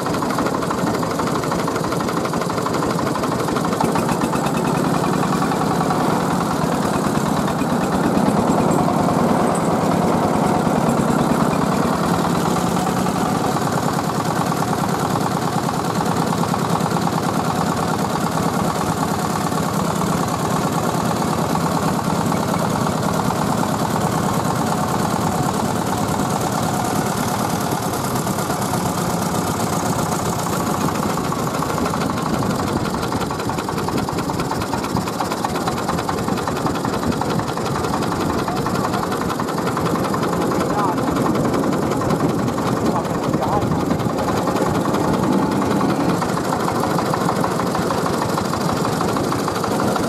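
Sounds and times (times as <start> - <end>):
diesel engine chugging: 0.0 - 50.0.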